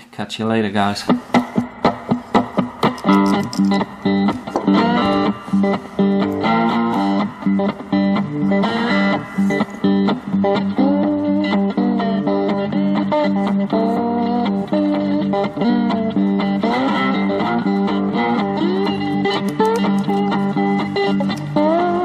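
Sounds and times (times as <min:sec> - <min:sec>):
electric guitar melody: 0:01.1 - 0:22.0
bass line: 0:04.1 - 0:22.0.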